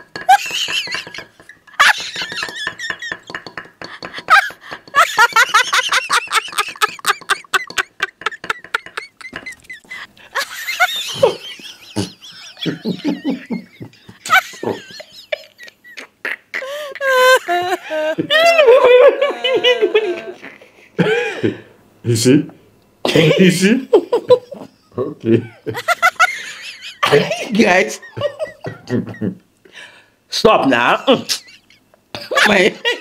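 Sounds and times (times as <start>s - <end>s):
woman and man laughing: 0.2s - 21.6s, 23.1s - 24.7s, 25.4s - 29.4s, 31.1s - 33.0s.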